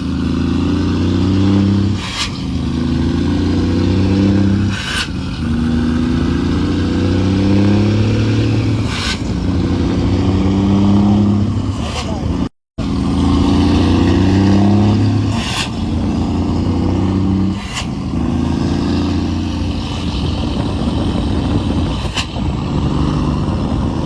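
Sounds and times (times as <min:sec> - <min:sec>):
truck diesel engine revving: 0:00.0 - 0:24.0.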